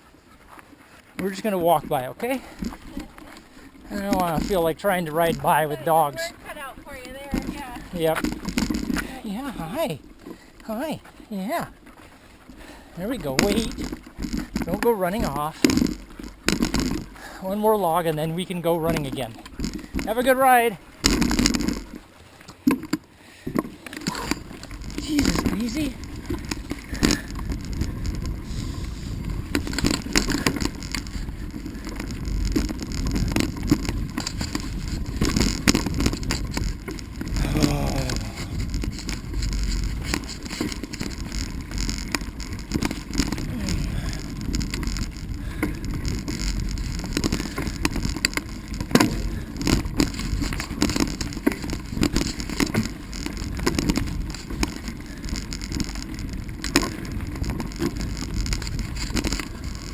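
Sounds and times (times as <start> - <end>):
bicycle tyres rumbling on dirt: 0.0 - 59.9.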